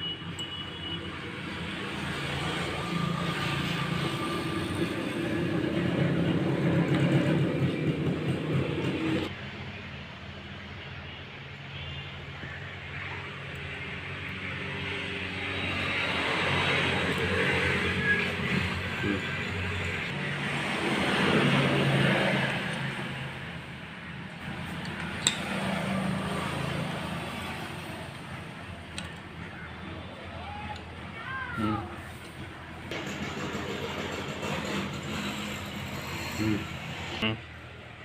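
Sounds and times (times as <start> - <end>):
motor vehicle noise: 0.0 - 38.0.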